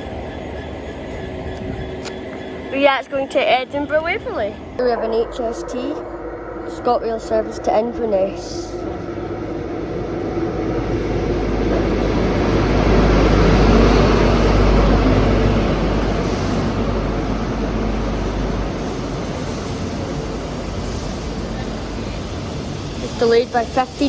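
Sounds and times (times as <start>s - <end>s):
deep rumble: 0.0s - 23.2s
diesel train engine: 0.0s - 24.0s
wheels on rails: 0.0s - 24.0s.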